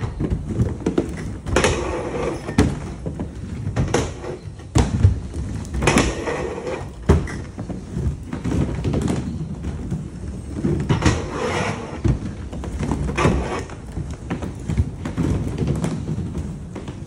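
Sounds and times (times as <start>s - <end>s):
skateboard wheels rumbling on wood: 0.0s - 17.0s.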